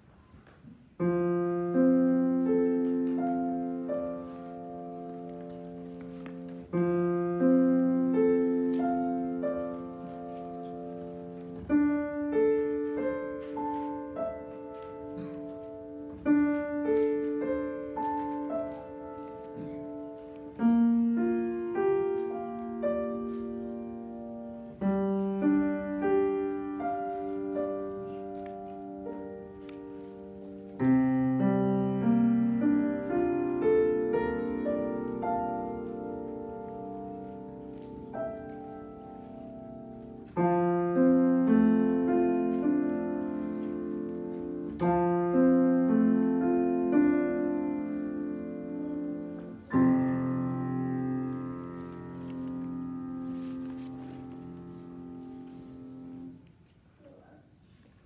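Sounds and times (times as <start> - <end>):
grand piano playing: 0.0 - 56.7.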